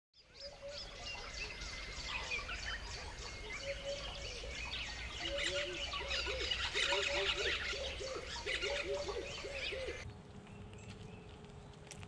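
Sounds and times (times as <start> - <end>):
birds chirping and trilling: 0.2 - 11.8
lower bird call: 0.3 - 10.0.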